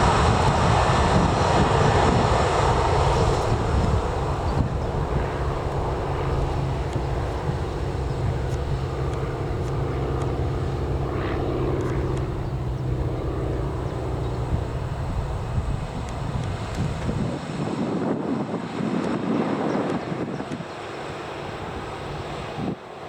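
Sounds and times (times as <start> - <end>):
airliner engines droning: 0.0 - 23.0.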